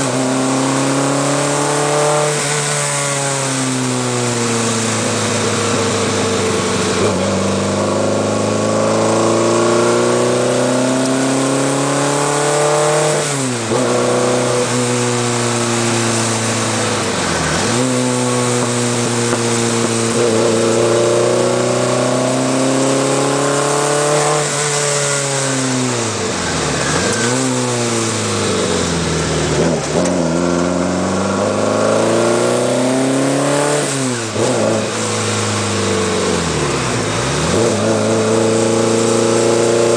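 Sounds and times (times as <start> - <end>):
car engine driven hard: 0.0 - 39.9.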